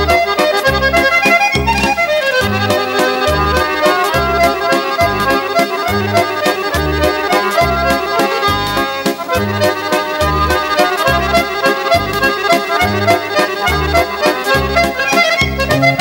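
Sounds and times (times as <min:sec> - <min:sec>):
accordion folk dance tune: 0:00.0 - 0:16.0.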